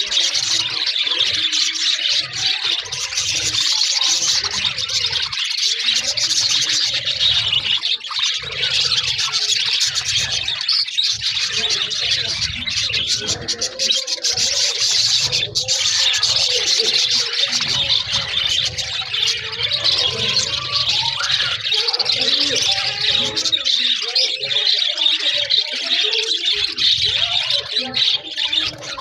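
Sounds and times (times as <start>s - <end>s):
budgerigars chattering: 0.0s - 29.0s.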